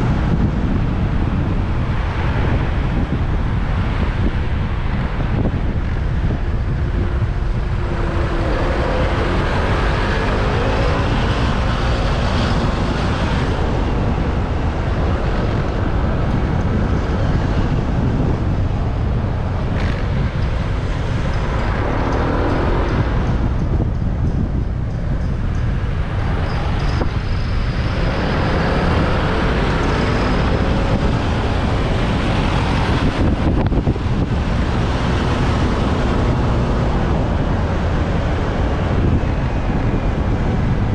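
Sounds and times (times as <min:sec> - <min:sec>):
city traffic rumble: 0:00.0 - 0:40.9.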